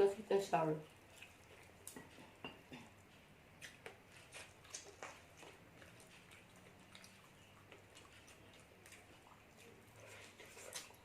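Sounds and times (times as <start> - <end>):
chewing and utensil clicks: 1.1 - 11.0.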